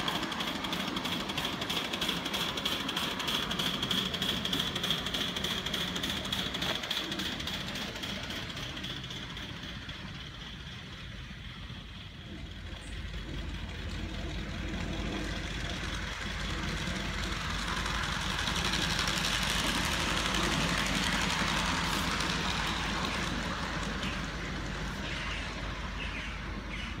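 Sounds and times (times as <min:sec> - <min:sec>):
steam locomotive exhaust: 0:00.0 - 0:27.0
wheels on rail: 0:00.0 - 0:27.0.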